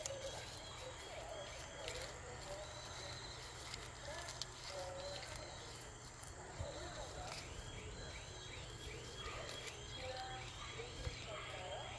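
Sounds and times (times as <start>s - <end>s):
faint low hum: 0.0s - 11.9s
high chirp: 0.0s - 11.9s.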